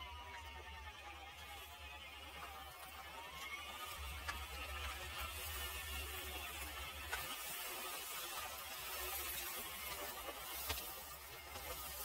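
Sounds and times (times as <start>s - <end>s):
small electric motor whine: 0.0s - 12.0s.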